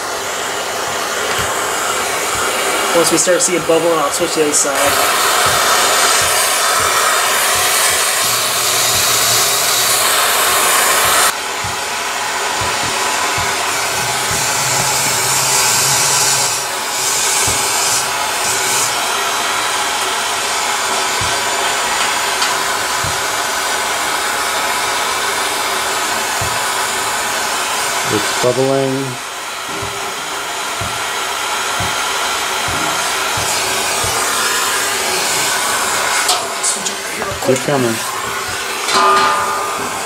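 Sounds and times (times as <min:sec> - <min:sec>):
torch flame hissing: 0:00.0 - 0:39.0.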